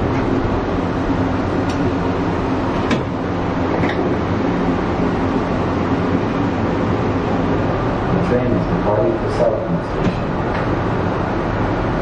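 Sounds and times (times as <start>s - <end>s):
train cabin rumble and hum: 0.0s - 12.0s.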